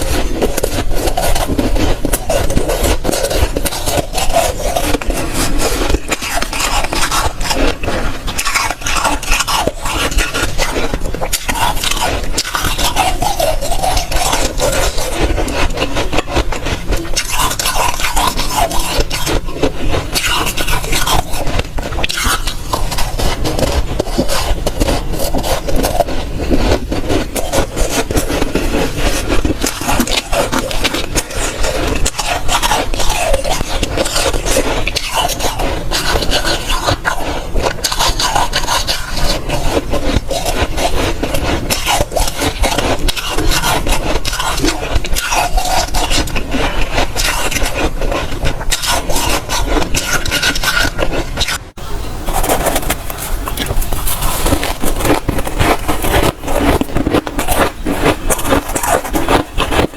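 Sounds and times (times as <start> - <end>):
chewing crunchy frost: 0.0 - 59.9.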